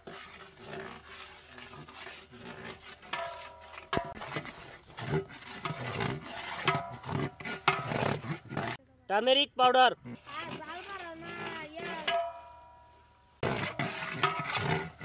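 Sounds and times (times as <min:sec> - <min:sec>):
metal spoon scraping cooking pot: 0:00.0 - 0:08.8, 0:10.2 - 0:12.6, 0:13.4 - 0:15.0.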